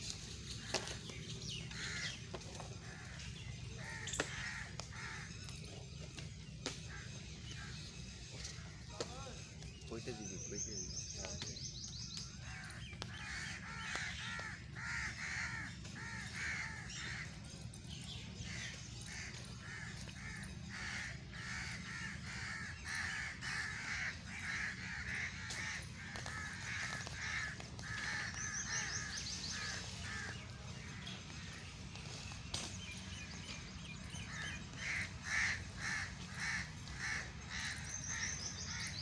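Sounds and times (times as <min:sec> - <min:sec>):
crows cawing: 0:00.6 - 0:11.5, 0:12.1 - 0:39.0.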